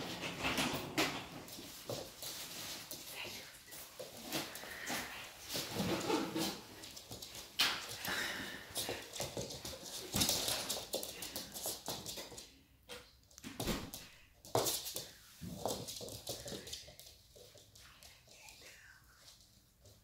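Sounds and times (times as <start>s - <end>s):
puppy claws clicking on floor: 0.5s - 20.0s.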